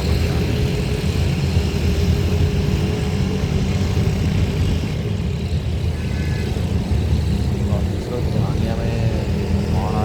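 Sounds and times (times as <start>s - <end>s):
train rumbling past: 0.0s - 10.0s.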